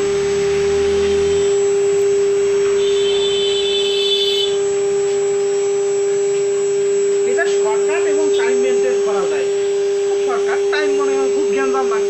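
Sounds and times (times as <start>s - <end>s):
higher whine: 0.0s - 12.0s
router spindle whine: 0.0s - 12.0s.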